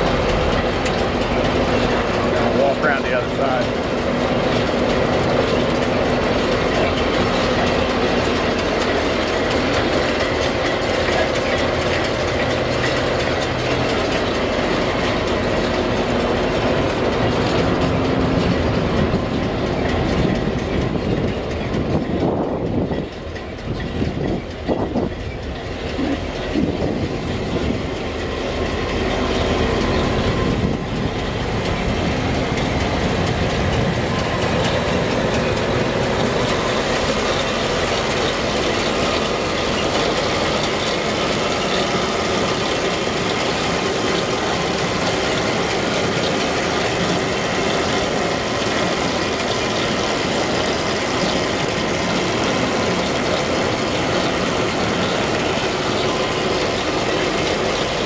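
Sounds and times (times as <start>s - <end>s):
baler mechanical clatter: 0.0s - 58.0s
tractor engine running: 0.0s - 58.0s.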